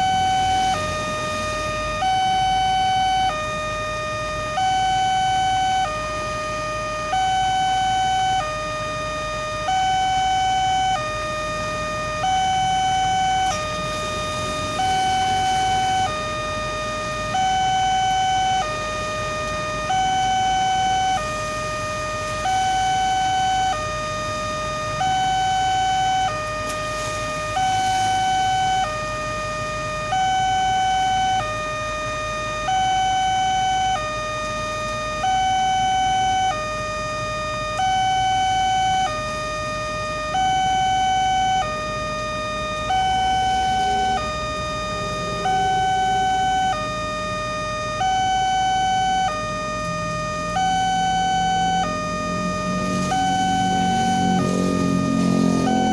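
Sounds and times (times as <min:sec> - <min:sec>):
level crossing two-tone alarm: 0:00.0 - 0:55.9.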